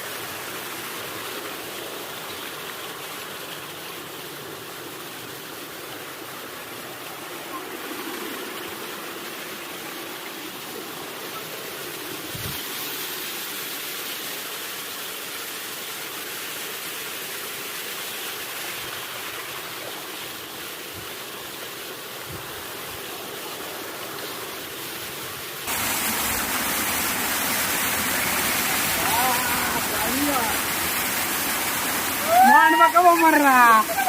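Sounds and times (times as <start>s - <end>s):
waterfall and stream rushing: 0.0s - 34.0s.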